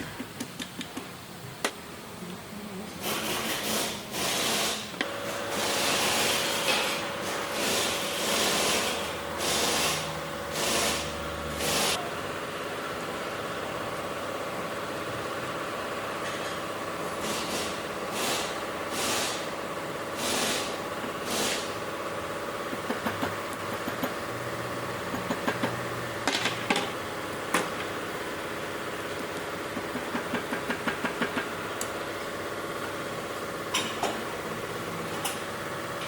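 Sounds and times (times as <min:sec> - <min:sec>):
steady machine hum: 0:01.8 - 0:36.0.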